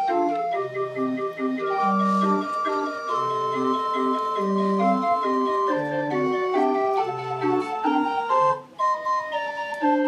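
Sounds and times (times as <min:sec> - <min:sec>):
organ playing gentle tune: 0:00.0 - 0:10.0.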